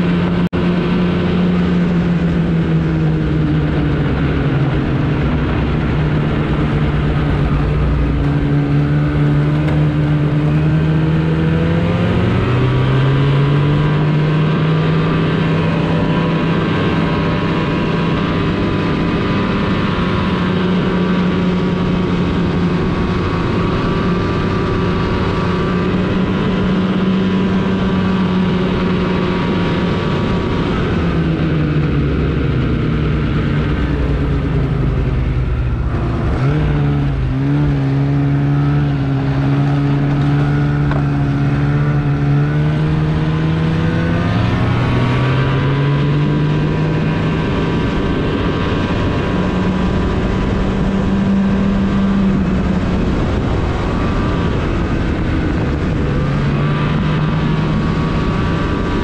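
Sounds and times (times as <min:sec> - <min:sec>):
snowmobile engine running: 0:00.0 - 0:59.0
steady rushing noise: 0:00.0 - 0:59.0.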